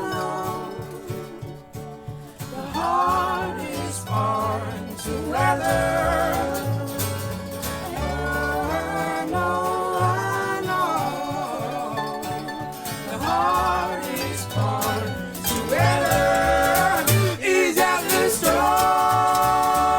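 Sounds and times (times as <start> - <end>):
guitar and banjo with bass: 0.0 - 19.9
person singing: 0.0 - 19.9.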